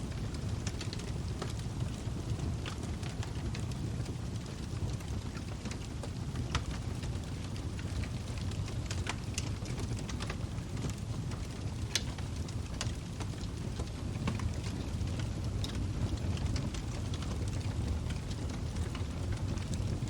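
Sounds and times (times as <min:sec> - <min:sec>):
burning wood crackling: 0:00.0 - 0:20.0
low rumble of flames: 0:00.0 - 0:20.0.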